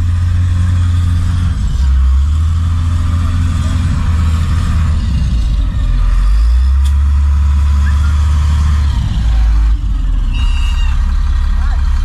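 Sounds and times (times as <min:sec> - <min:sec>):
diesel engine running hard: 0:00.0 - 0:12.0.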